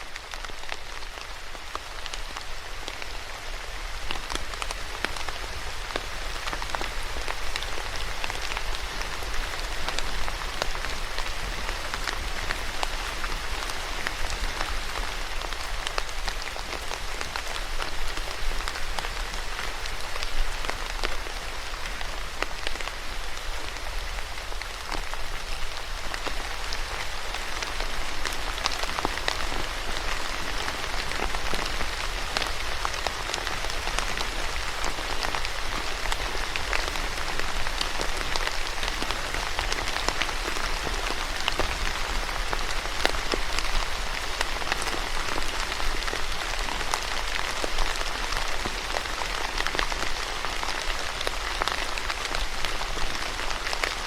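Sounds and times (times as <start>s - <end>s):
rain pattering on surface: 0.0s - 54.0s.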